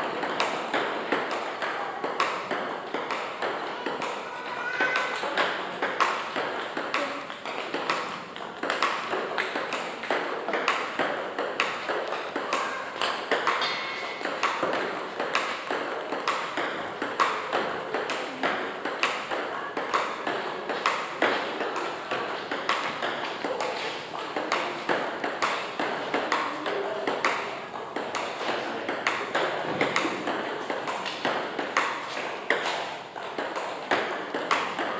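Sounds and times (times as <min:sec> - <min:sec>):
table tennis balls clicking: 0:00.0 - 0:34.9.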